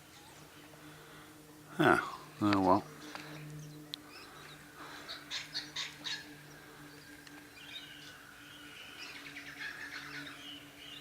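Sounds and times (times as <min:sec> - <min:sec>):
birds chirping: 0:00.0 - 0:11.0
birds warbling: 0:00.0 - 0:11.0
steady low hum: 0:00.0 - 0:11.0.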